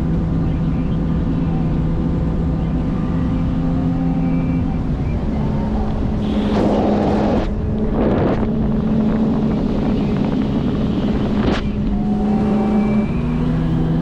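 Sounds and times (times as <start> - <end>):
outboard motor running: 0.0 - 14.0
rushes of water and wind: 0.0 - 14.0.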